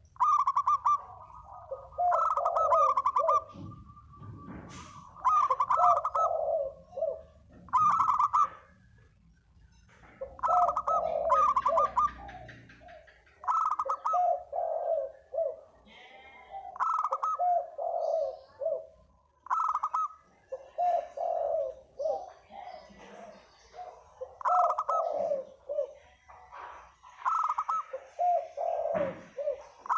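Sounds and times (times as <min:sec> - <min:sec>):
turtle dove cooing: 0:00.0 - 0:09.2, 0:10.0 - 0:29.9.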